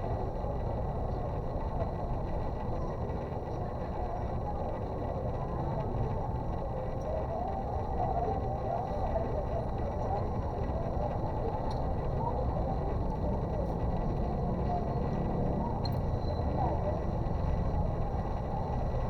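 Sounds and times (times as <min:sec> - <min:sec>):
faint indistinct voices: 0:00.0 - 0:19.0
low background rumble: 0:00.0 - 0:19.0.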